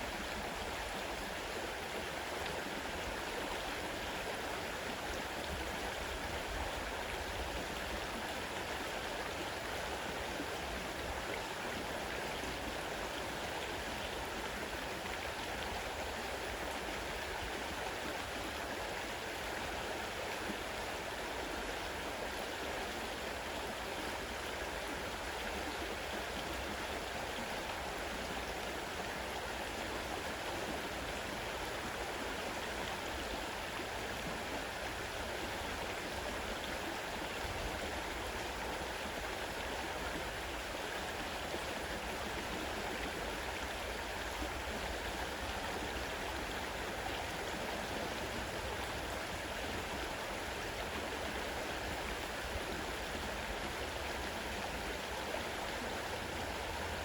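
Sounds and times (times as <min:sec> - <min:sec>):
fast river water rushing: 0:00.0 - 0:57.0.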